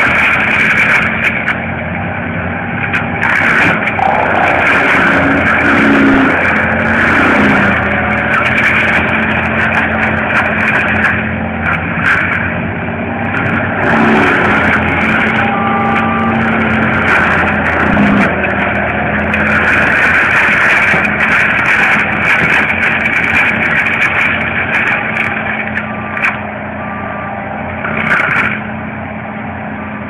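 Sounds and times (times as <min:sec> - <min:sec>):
diesel engine running hard: 0:00.0 - 0:30.0
hydraulic mulching head grinding: 0:00.0 - 0:30.0.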